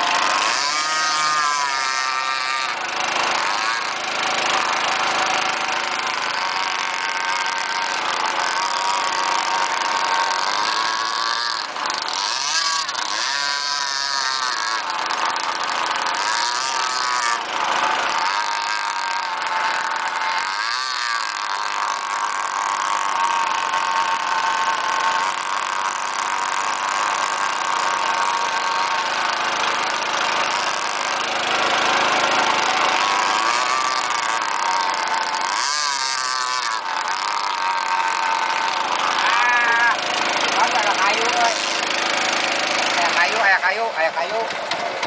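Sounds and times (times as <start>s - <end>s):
model boat engine running: 0.0s - 45.0s.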